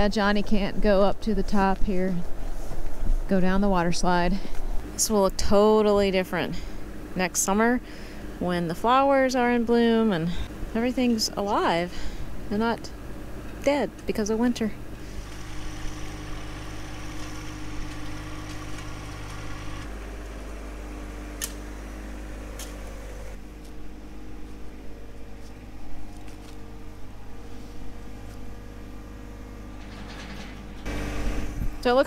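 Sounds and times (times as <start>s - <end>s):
diesel tractor engine running: 0.0s - 32.0s.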